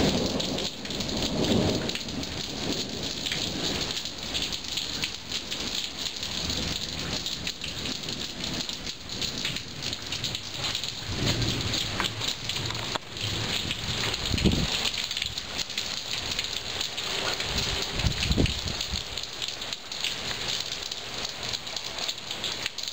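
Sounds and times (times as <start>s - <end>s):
low thunder rumble: 0.0s - 16.7s, 17.4s - 19.2s
heavy rain on concrete: 0.0s - 22.9s
raindrops ticking: 0.0s - 22.9s.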